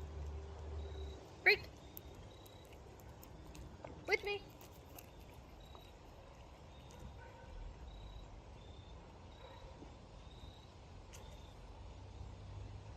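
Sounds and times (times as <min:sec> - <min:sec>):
faint outdoor rumble: 0:00.0 - 0:12.9.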